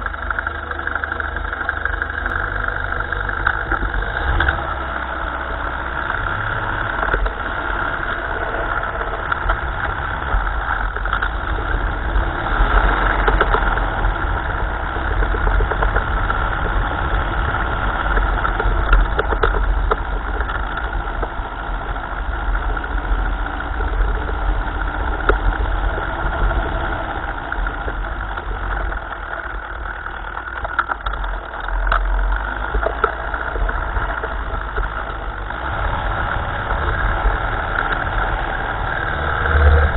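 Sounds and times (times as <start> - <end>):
clicks and rattles: 0.0 - 38.4
tractor engine running: 0.0 - 39.9.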